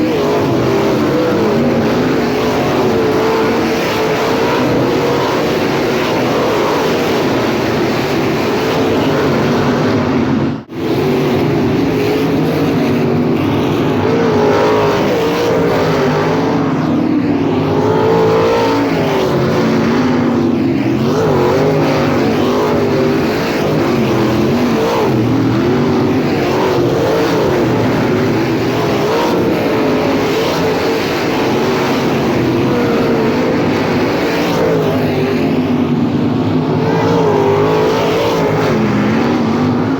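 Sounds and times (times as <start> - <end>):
race car engines: 0.0 - 39.9.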